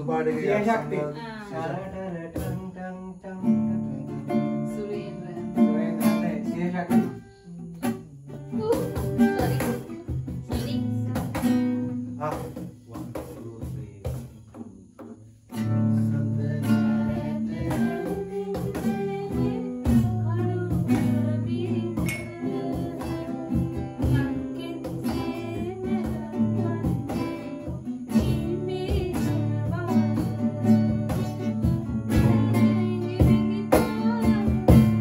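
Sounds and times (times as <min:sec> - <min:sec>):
person singing: 0:00.0 - 0:11.2, 0:15.6 - 0:35.0
acoustic guitar: 0:00.0 - 0:35.0.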